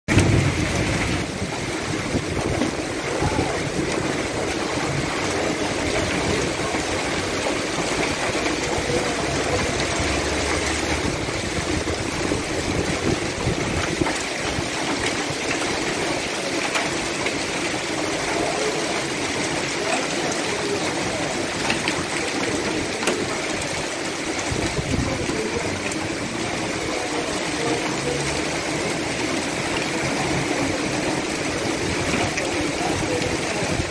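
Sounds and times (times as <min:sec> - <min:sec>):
hail and rain pelting: 0:00.1 - 0:33.9.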